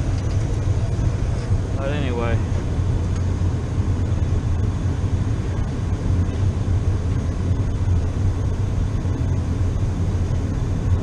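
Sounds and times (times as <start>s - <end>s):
heating burner rumbling: 0.0s - 11.0s.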